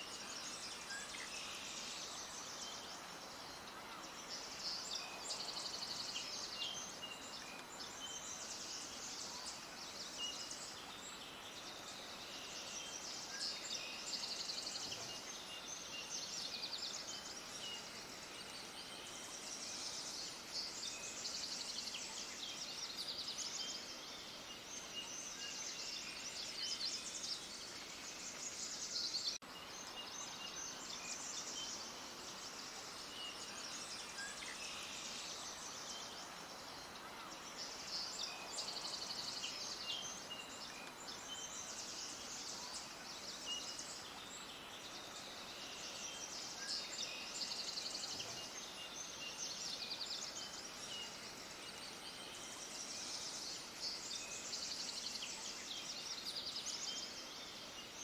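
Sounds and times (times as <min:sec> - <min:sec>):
faint steady background hiss: 0:00.0 - 0:58.0
small birds chirping: 0:00.0 - 0:58.0.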